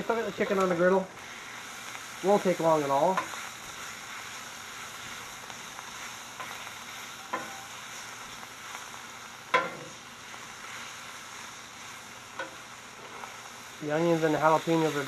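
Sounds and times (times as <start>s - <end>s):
chicken sizzling on griddle: 0.0s - 15.0s.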